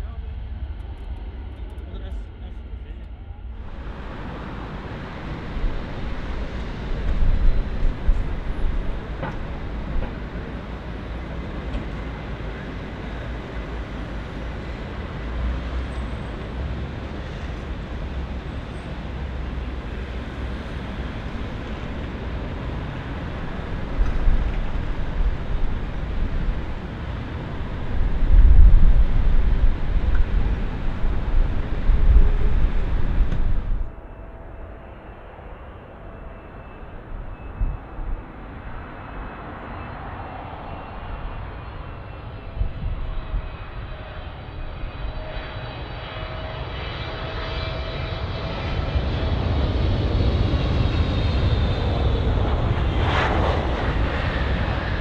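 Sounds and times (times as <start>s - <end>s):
jet engine noise: 0.0s - 55.0s
low rumbling surges: 0.0s - 55.0s.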